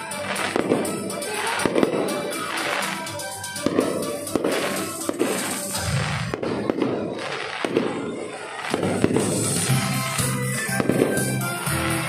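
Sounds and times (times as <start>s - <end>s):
fireworks bursting bangs: 0.0s - 12.0s
music playing: 0.0s - 12.0s.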